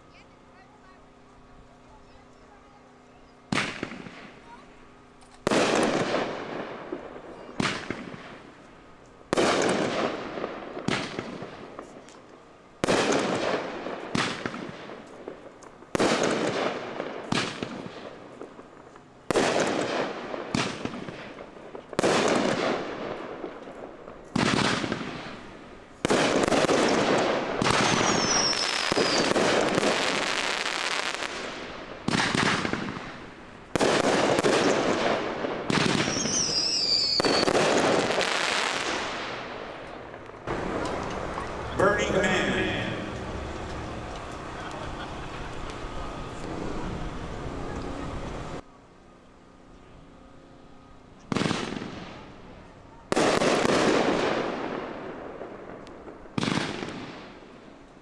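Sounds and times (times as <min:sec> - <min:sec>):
aerial fireworks bursting: 0:05.4 - 0:08.6, 0:09.3 - 0:12.1, 0:12.8 - 0:48.6, 0:51.3 - 0:52.4, 0:53.1 - 0:57.6.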